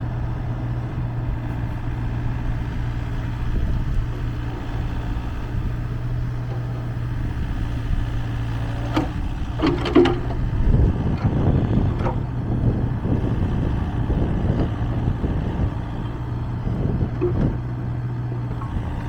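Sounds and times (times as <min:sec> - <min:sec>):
excavator diesel engine idling: 0:00.0 - 0:19.0.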